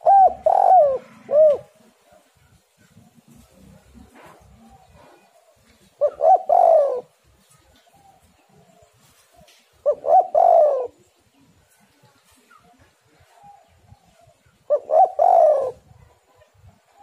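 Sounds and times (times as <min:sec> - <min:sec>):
dove cooing: 0:00.0 - 0:02.2, 0:02.8 - 0:11.6, 0:13.2 - 0:17.0.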